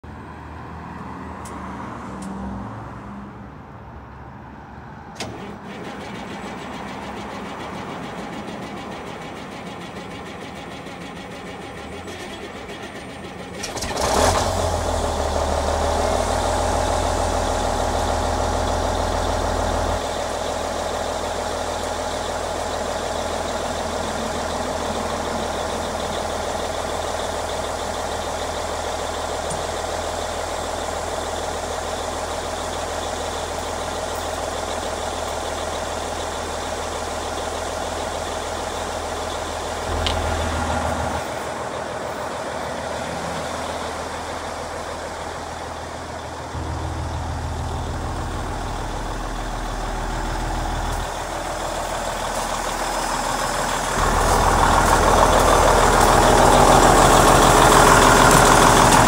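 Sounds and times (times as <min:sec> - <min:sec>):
diesel engine cranking and idling: 0:00.0 - 0:59.0.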